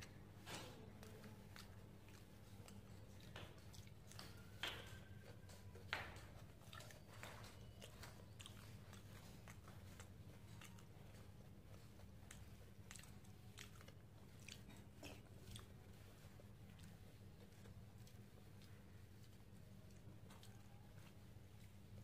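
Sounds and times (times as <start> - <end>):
person chewing with crunches: 0.0 - 22.0.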